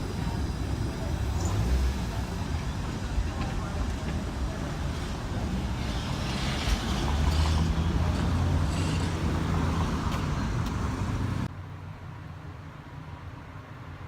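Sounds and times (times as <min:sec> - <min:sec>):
vehicle engine rumble passing: 0:00.0 - 0:11.5.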